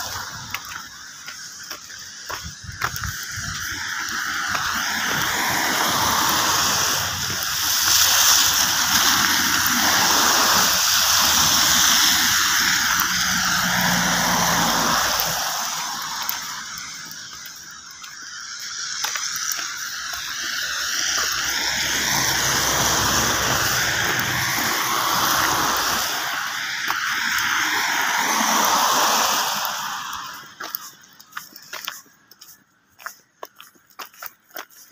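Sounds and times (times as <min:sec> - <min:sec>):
car tyres splashing through slush: 0:00.0 - 0:32.0.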